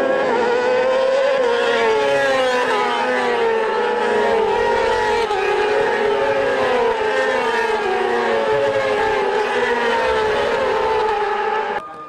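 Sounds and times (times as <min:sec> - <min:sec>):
racing motorcycles at high revs: 0:00.0 - 0:11.8.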